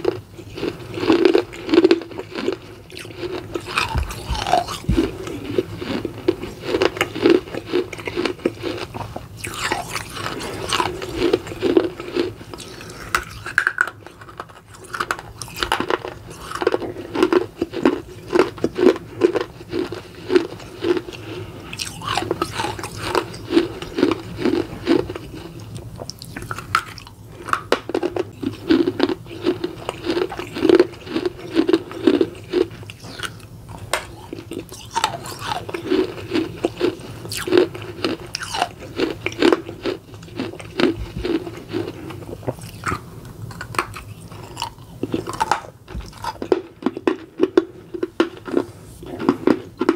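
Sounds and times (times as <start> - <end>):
crunching and chewing: 0.0 - 49.9.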